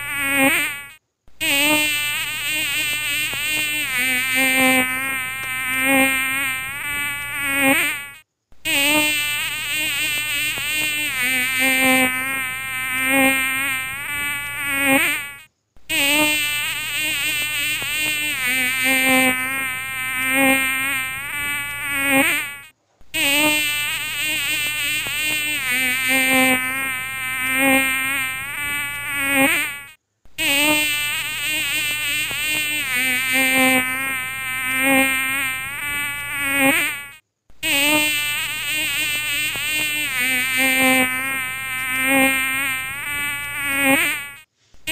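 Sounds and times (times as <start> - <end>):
mosquito buzzing: 0.0 - 44.9.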